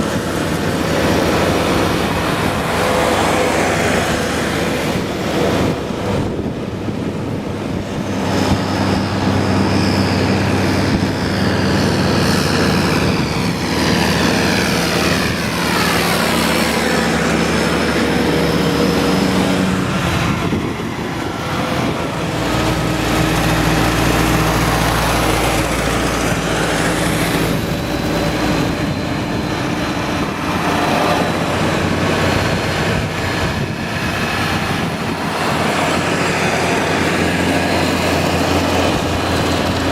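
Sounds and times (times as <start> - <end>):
tractor engines droning: 0.0 - 39.9.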